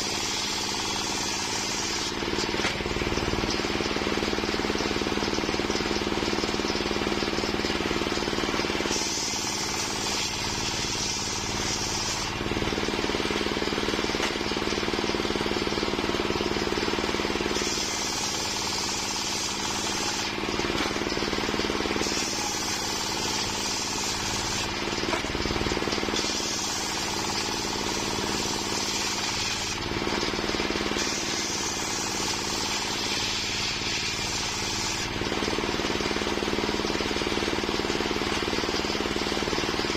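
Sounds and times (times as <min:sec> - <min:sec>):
circular saw running: 0:00.0 - 0:39.9
saw blade cutting whine: 0:00.0 - 0:39.9.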